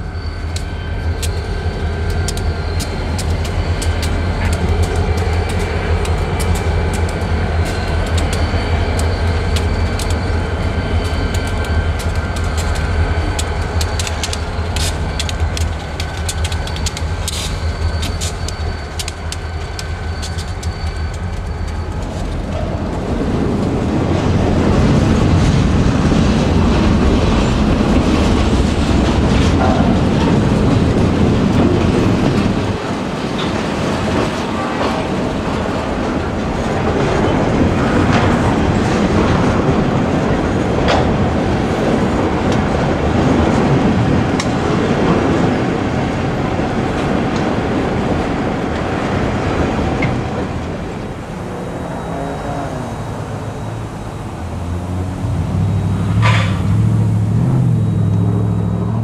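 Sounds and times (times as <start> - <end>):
wheels clicking over rail joints: 0.0 - 58.7
freight train rolling past: 0.0 - 59.0.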